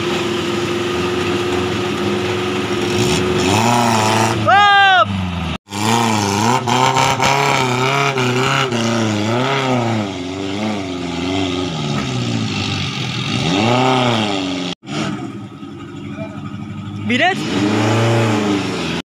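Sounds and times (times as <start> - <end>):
engine revving under load: 0.0 - 15.5, 16.4 - 19.0.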